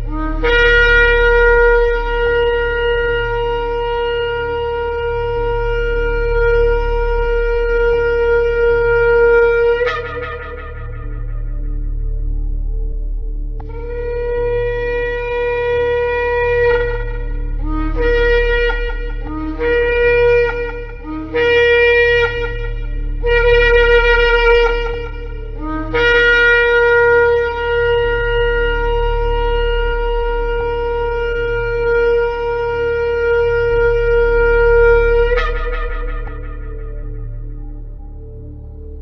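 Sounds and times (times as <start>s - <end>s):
shofar blasts: 0.0s - 39.0s.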